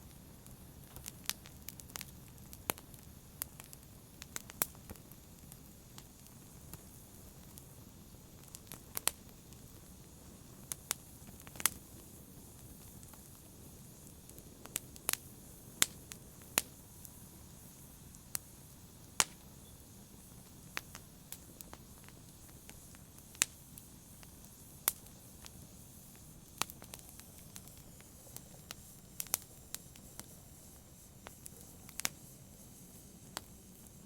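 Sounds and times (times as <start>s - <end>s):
faint steady hiss: 0.0s - 34.0s
wood fire crackling and popping: 0.0s - 34.0s.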